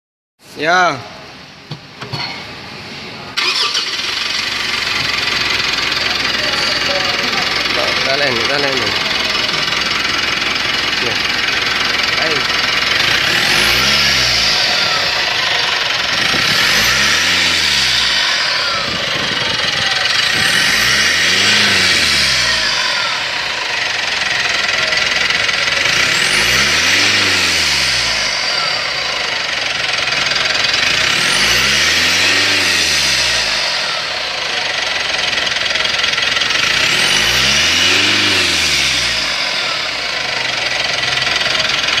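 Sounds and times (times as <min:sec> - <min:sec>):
car engine revving: 0:03.4 - 0:42.0.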